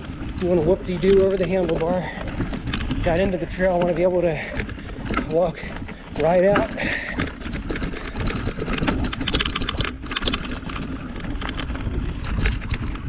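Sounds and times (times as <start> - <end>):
bike rattling over rocks: 0.0 - 13.0.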